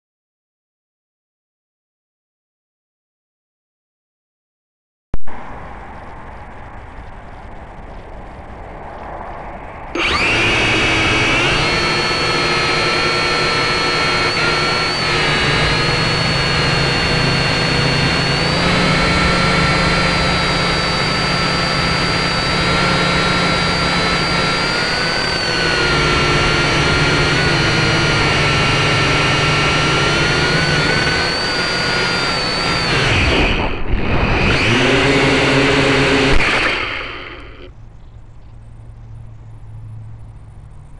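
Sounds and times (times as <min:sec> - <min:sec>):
drone motors whining: 0:06.3 - 0:40.9.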